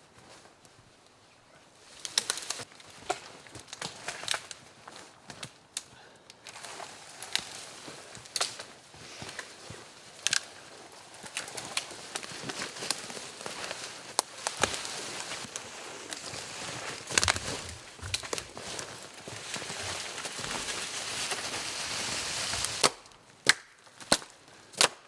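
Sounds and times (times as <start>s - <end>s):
dry sticks and leaves crunching: 1.9s - 25.0s.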